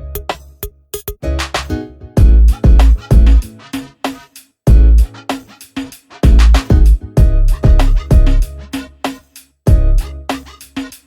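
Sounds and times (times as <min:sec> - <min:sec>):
instrumental beat with bass drum: 0:00.0 - 0:11.0.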